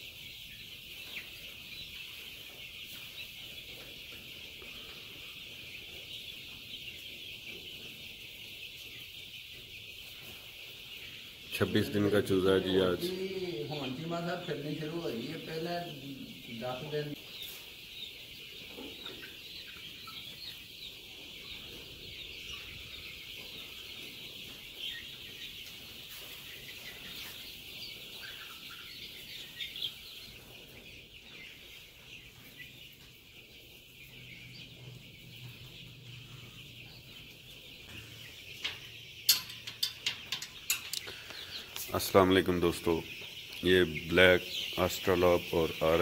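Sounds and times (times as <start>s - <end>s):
chicks peeping and chirping: 0.0s - 46.0s.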